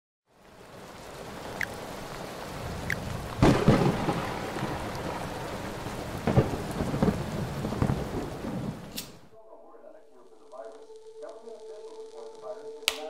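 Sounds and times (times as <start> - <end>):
steady rain: 0.3 - 13.0
thunder rumbling: 0.4 - 12.8.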